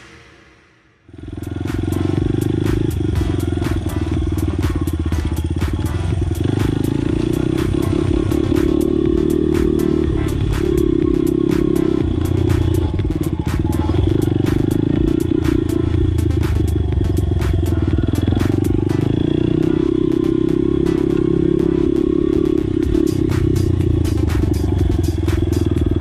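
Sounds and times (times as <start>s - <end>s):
dirt bike engine revving: 1.1s - 26.0s.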